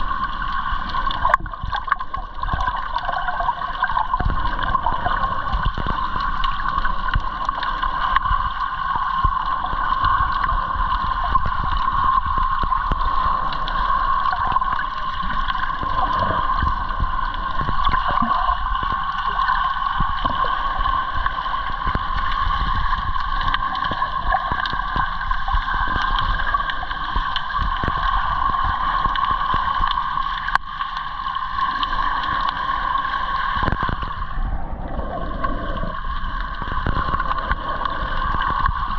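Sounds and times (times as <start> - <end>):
underwater gurgling and sloshing: 0.0 - 38.9.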